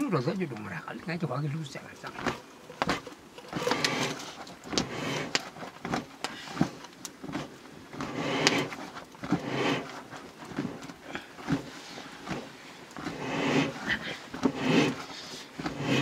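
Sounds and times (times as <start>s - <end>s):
mushroom scraping rasps and clicks: 0.0s - 16.0s.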